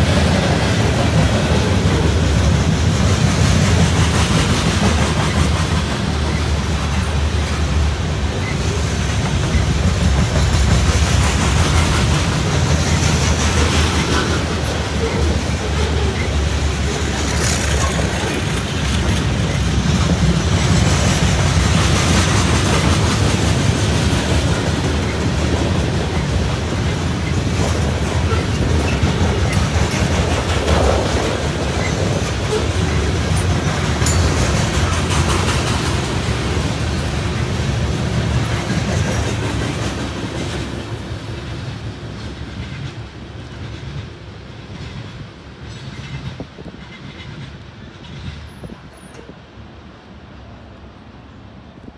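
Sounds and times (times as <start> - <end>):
wheels clickety-clack clatter: 0.0 - 49.4
freight train rumbling past: 0.0 - 51.9.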